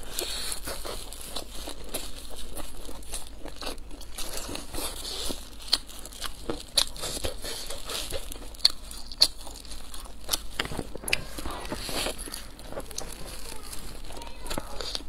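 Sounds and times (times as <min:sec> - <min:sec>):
chewing: 0:00.0 - 0:15.0
crisp crust crackling: 0:00.0 - 0:15.0
plastic gloves crinkling: 0:00.0 - 0:15.0.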